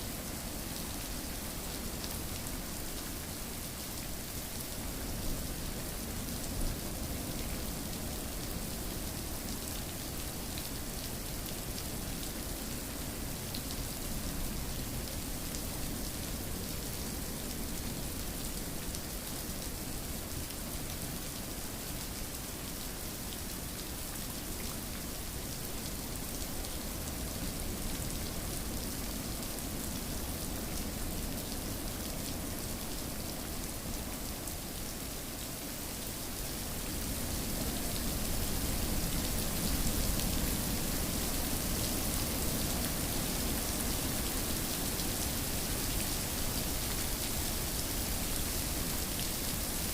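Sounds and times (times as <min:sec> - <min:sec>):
steady rainfall: 0:00.0 - 0:49.9.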